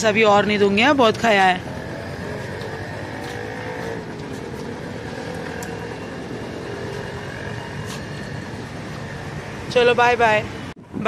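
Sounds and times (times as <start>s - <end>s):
motor vehicle drone: 0.0s - 11.0s.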